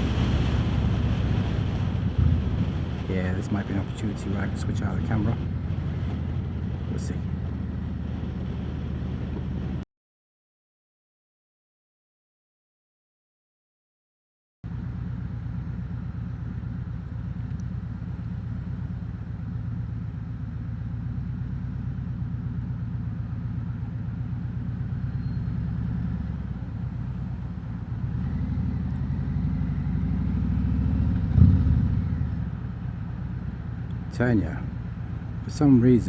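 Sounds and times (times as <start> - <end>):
motorcycle engine rumbling: 0.0 - 9.8, 14.7 - 36.0.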